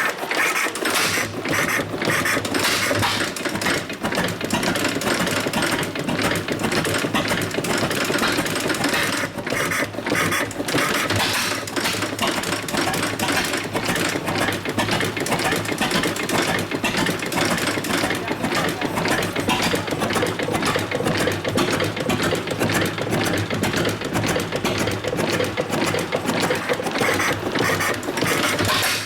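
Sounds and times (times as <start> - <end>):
boat engine clattering: 0.0 - 29.0.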